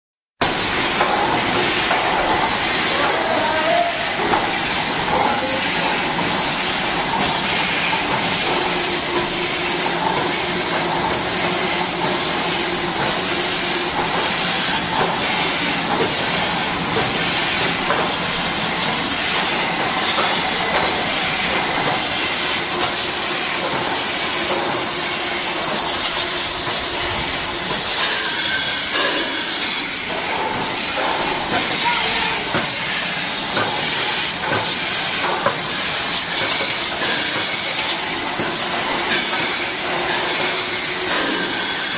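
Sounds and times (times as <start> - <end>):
loud steady hiss: 0.4 - 41.9.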